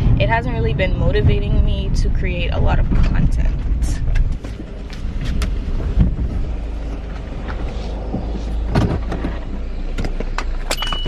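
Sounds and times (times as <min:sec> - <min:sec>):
low road rumble: 0:00.0 - 0:11.0.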